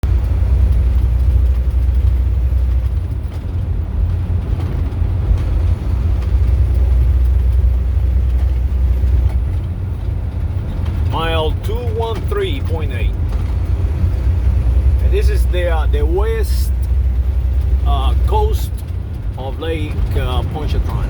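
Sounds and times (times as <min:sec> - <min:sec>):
car driving at highway speed: 0:00.0 - 0:21.0.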